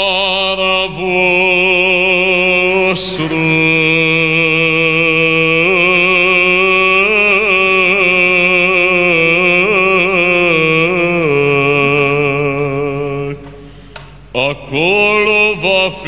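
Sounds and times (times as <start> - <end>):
man chanting: 0.0 - 13.5, 14.4 - 16.0.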